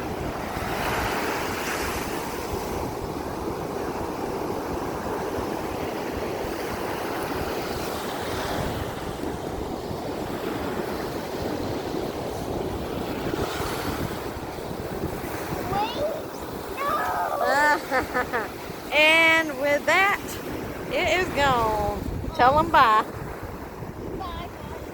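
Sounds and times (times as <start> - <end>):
ocean surf washing onto beach: 0.0 - 24.9
wind buffeting microphone: 0.0 - 24.9.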